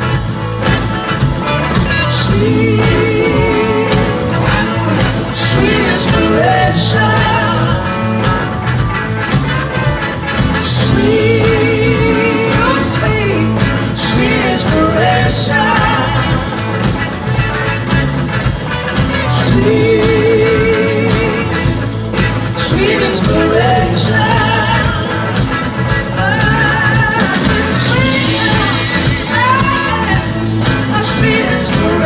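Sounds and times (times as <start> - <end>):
lead singer singing: 0.0 - 8.8, 10.4 - 17.7, 18.9 - 32.0
bass: 0.0 - 32.0
drums: 0.0 - 32.0
electric guitars: 0.0 - 32.0.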